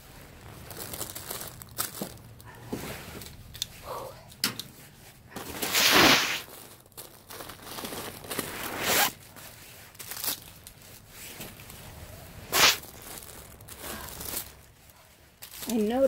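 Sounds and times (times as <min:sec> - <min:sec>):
plastic bags and fabric rustling: 0:00.0 - 0:16.0.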